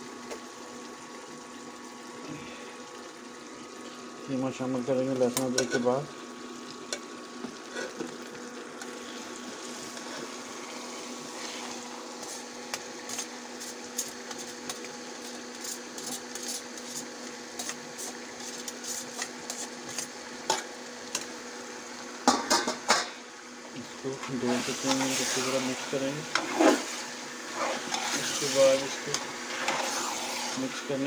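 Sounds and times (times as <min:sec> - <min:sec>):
hot oil sizzling: 0:00.0 - 0:31.0.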